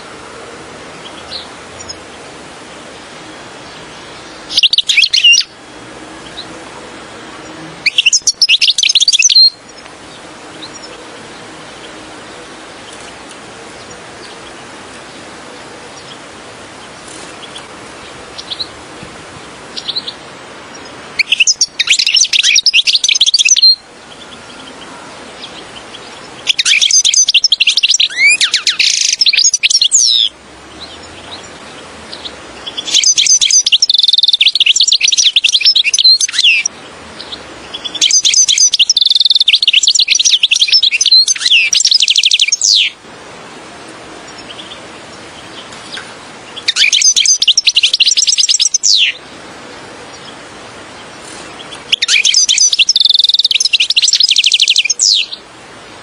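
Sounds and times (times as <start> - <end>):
goldfinch twittering song: 0.9 - 2.3, 2.9 - 5.6, 7.4 - 16.2, 16.8 - 18.8, 19.4 - 43.0, 44.2 - 49.3, 51.0 - 55.4.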